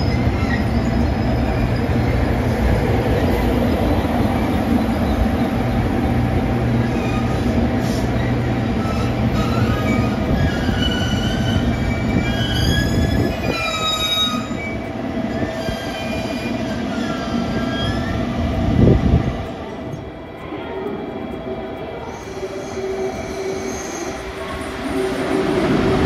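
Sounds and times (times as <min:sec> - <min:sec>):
low train rumble: 0:00.0 - 0:26.0
train wheels and brakes squealing: 0:00.0 - 0:26.0.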